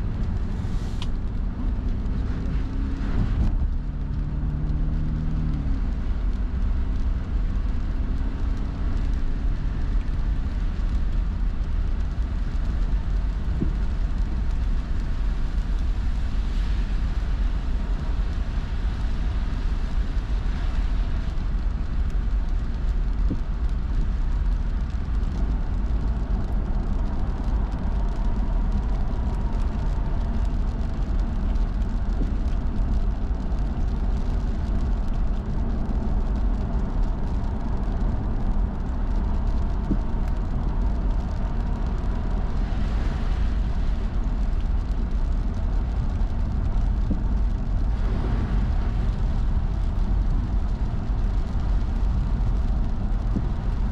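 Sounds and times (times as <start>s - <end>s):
car engine: 0.0s - 53.9s
road and tyre rumble: 0.0s - 53.9s.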